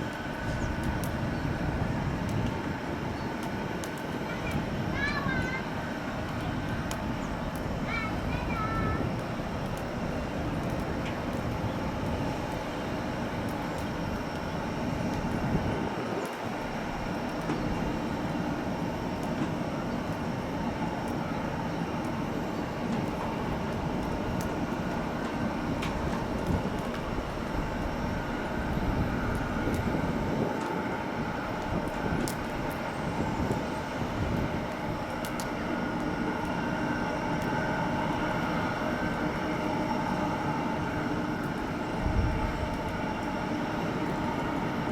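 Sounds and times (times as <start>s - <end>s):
faint engine whine: 0.0s - 44.9s
jet engines running: 0.0s - 44.9s.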